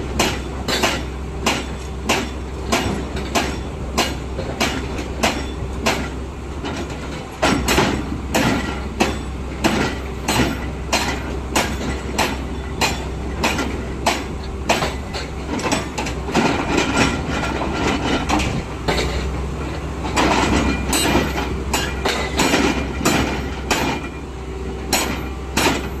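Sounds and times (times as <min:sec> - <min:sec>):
excavator engine humming: 0:00.0 - 0:26.0
metal clanks and knocks: 0:00.1 - 0:26.0.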